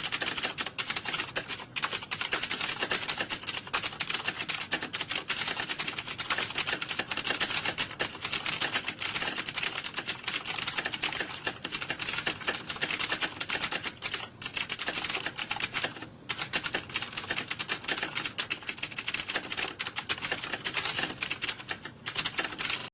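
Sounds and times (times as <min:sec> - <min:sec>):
computer keyboards typing: 0:00.0 - 0:22.9.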